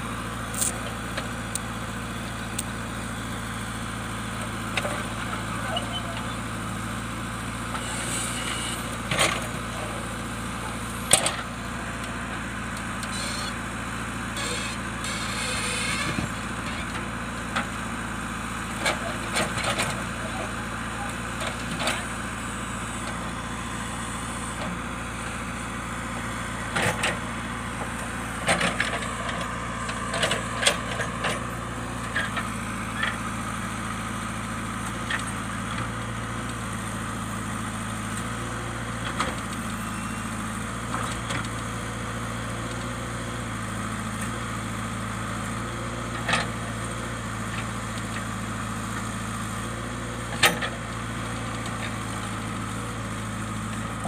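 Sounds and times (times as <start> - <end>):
digger diesel engine running: 0.0 - 54.0.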